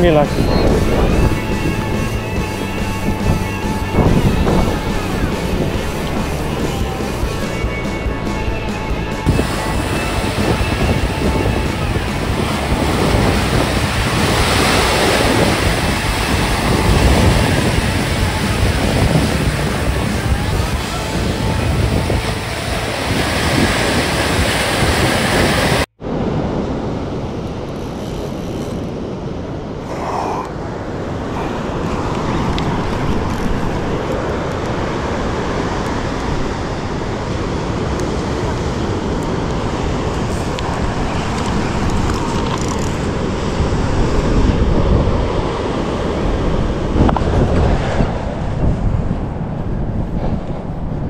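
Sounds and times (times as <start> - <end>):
breaking surf: 0.0 - 51.0
wind buffeting microphone: 0.0 - 51.0.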